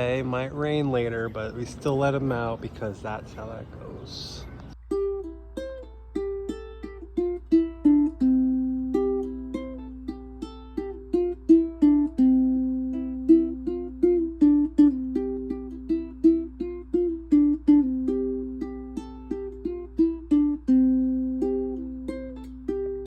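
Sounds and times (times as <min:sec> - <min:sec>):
plucked string melody: 0:00.0 - 0:03.5, 0:04.6 - 0:23.0.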